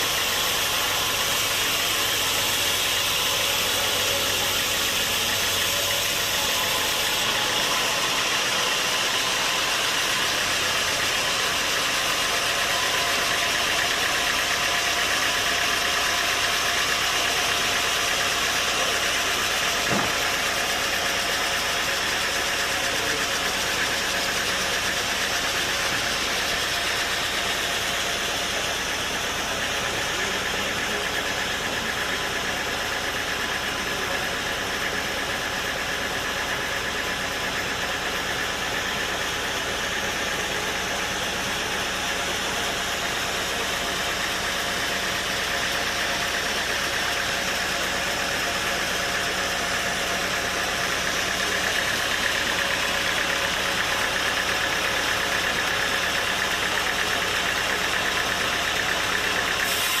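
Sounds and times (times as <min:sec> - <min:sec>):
sawmill machinery running: 0:00.0 - 1:00.0.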